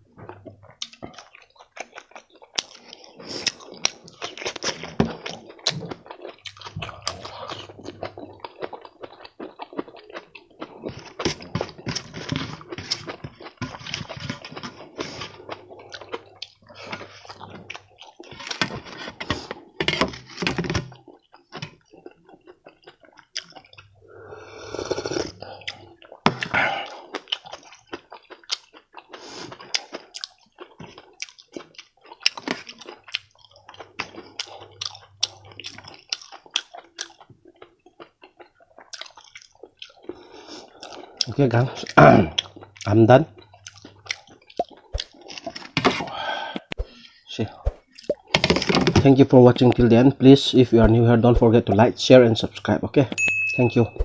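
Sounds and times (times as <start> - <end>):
person chewing with wet smacks: 0.1 - 24.2, 25.4 - 48.3, 49.6 - 54.0.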